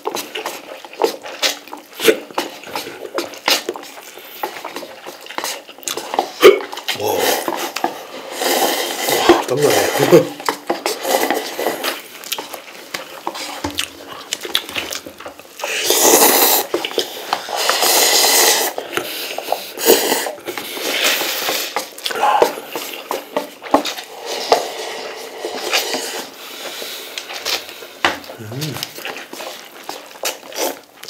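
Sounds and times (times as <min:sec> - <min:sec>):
chewing: 0:00.0 - 0:31.0
noodles slurping: 0:00.0 - 0:31.0.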